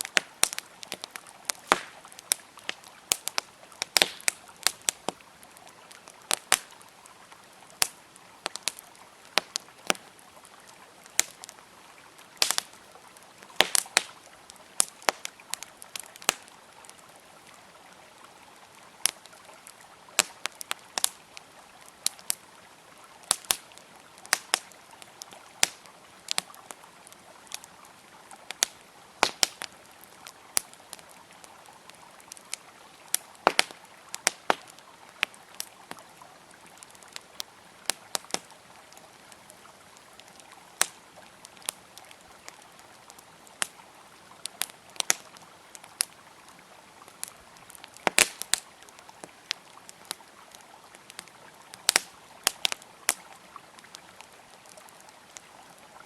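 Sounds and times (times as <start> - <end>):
river flowing: 0.0 - 56.0
wood fire crackling: 0.0 - 56.0.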